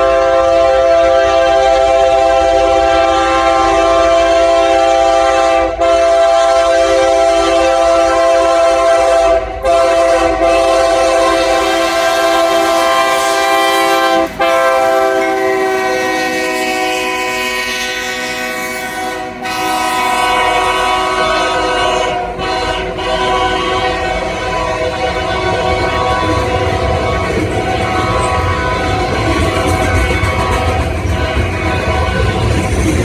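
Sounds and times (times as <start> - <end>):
locomotive air horn blasts: 0.0 - 32.7
rumble of passing train: 0.0 - 33.0.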